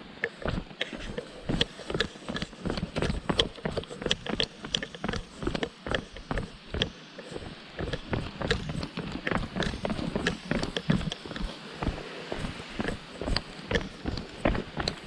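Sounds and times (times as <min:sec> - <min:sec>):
footsteps on stony path: 0:00.2 - 0:15.0.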